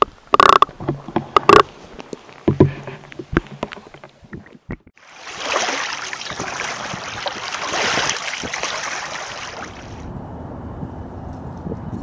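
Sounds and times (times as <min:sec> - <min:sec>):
water splashing along canoe hull: 0:00.3 - 0:10.1.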